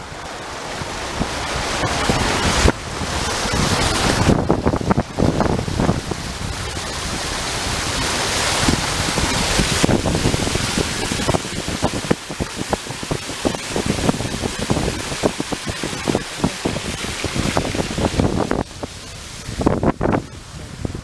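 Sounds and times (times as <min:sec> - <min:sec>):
hissing gust: 0:00.0 - 0:21.0
wind buffeting microphone: 0:00.0 - 0:21.0.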